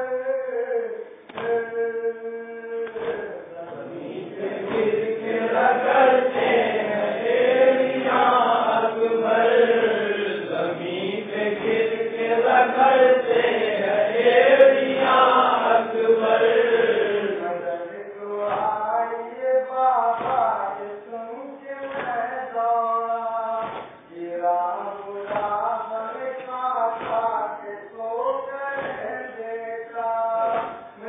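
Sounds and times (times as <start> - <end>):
men chanting a lament: 0.0 - 31.0.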